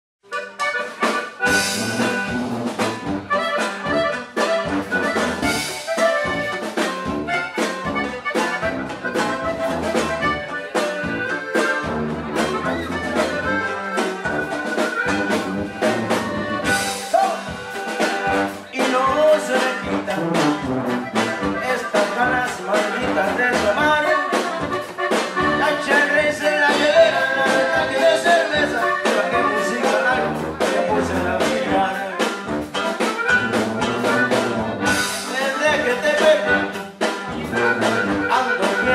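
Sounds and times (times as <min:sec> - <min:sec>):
accordion melody: 0:00.2 - 0:38.9
guitar: 0:00.2 - 0:38.9
drum kit beat: 0:00.3 - 0:38.9
tuba bass: 0:00.3 - 0:38.9.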